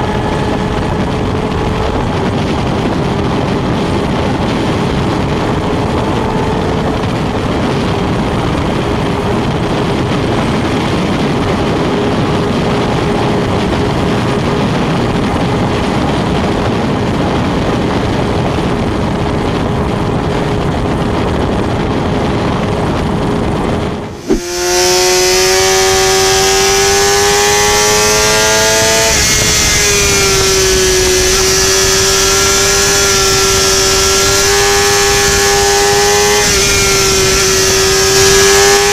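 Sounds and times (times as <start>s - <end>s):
wind rushing: 0.0s - 38.7s
motorcycle engine at high speed: 0.0s - 38.9s.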